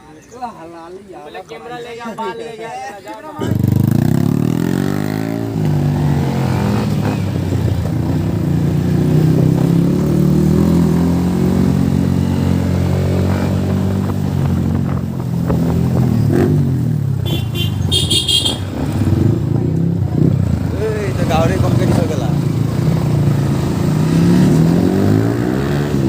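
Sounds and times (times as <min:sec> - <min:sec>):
motorcycle engine: 0:03.4 - 0:26.0.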